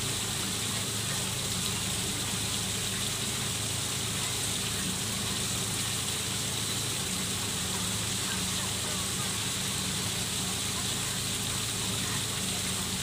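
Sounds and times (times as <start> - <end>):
waterfall splashing into pond: 0.0 - 13.0.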